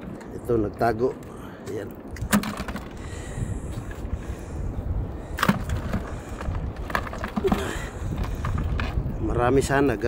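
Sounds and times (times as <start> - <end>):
wind rumble on microphone: 1.8 - 10.0.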